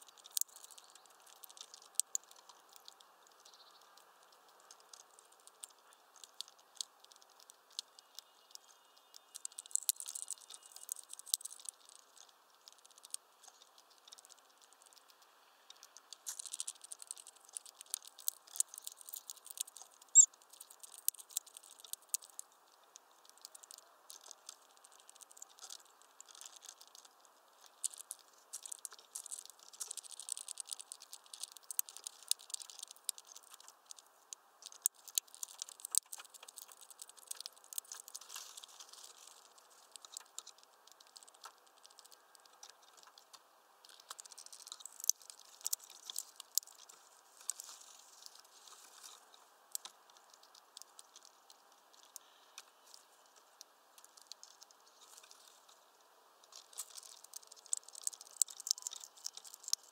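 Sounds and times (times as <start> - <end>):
crackling and ticking clicks: 0.0 - 59.9.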